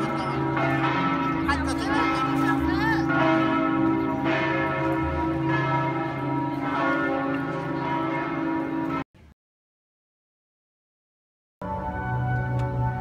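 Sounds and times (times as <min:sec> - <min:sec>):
church bells ringing: 0:00.0 - 0:09.1, 0:11.6 - 0:13.0.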